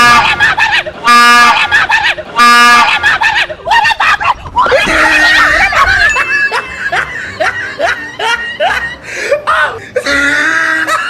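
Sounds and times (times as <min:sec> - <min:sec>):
people screaming: 0:00.0 - 0:07.6, 0:08.2 - 0:11.0.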